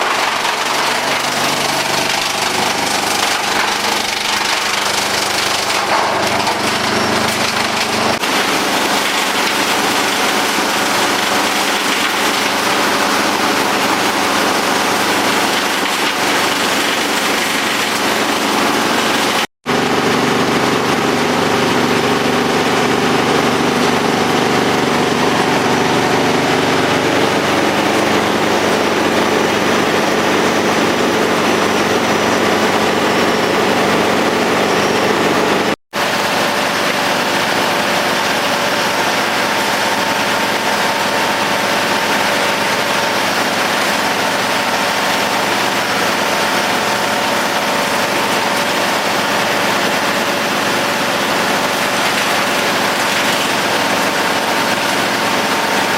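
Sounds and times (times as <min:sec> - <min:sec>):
tractor engine running wood chipper: 0:00.0 - 0:55.9.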